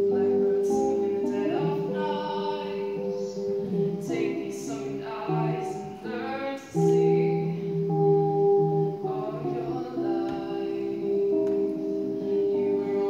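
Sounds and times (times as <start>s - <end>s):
guitar chords: 0.0s - 13.0s
person singing slow song: 0.0s - 13.0s.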